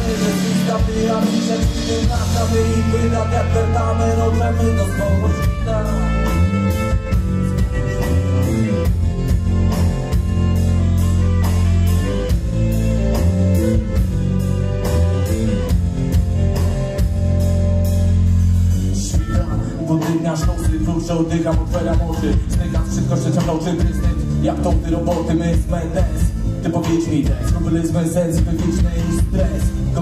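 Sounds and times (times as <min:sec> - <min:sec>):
bass guitar: 0:00.0 - 0:30.0
drum kit steady beat: 0:00.0 - 0:30.0.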